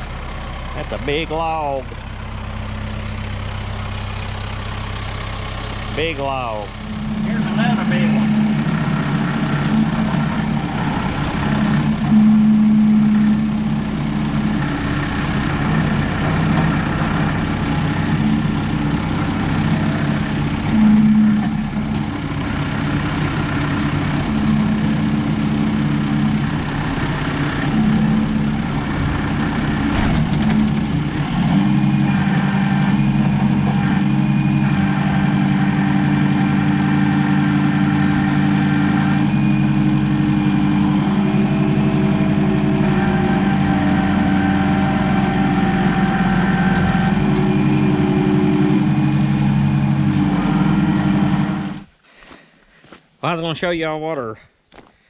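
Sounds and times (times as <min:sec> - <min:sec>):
tractor diesel engine running: 0:00.0 - 0:53.6.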